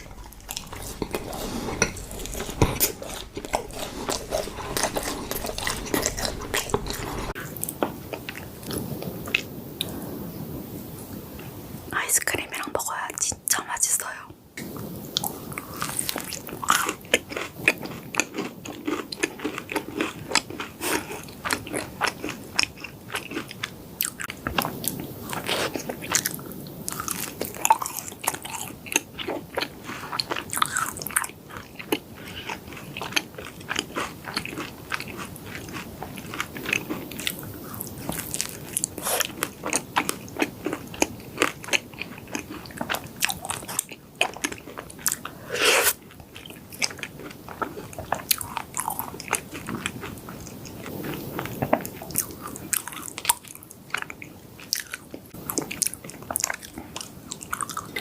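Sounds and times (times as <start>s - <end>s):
crunchy cookie chewing: 0.0s - 9.5s, 15.2s - 58.0s.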